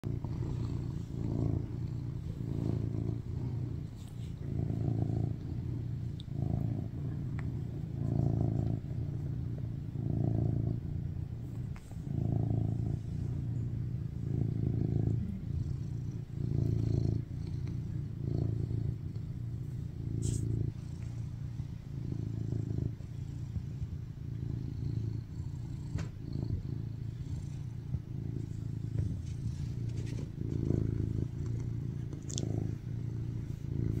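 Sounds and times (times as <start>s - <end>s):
cat purring: 0.0s - 34.0s.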